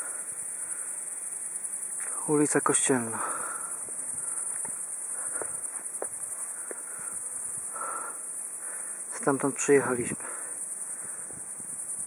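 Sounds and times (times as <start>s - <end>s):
crickets chirring: 0.0s - 12.0s
faint ticks and rustles: 0.0s - 12.0s.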